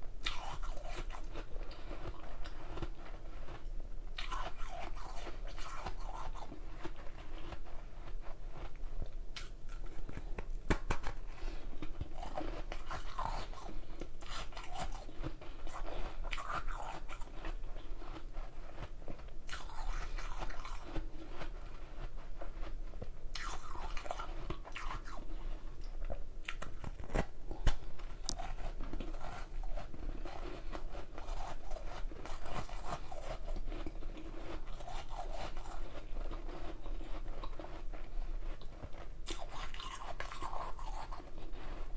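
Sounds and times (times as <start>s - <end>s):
ice crunching and chewing: 0.2s - 41.9s.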